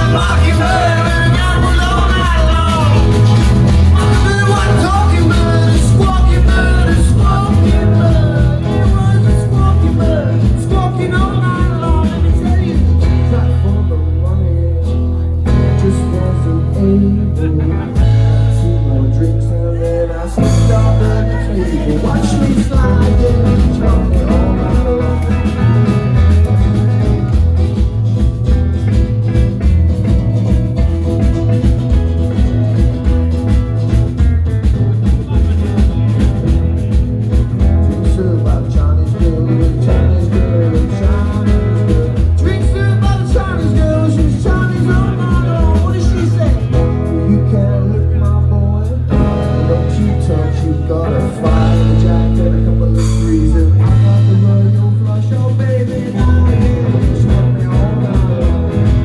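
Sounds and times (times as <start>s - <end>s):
person singing: 0.0s - 28.3s, 37.3s - 59.0s
live rock band playing: 0.0s - 59.0s.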